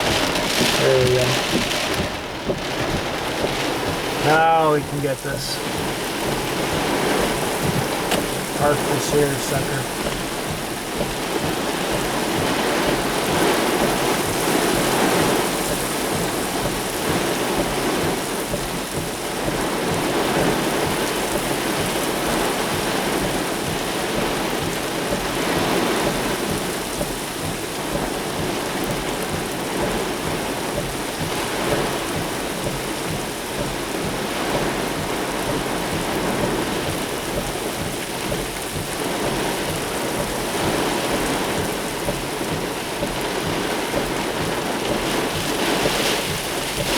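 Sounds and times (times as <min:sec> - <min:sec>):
heavy rain pouring: 0:00.0 - 0:46.9.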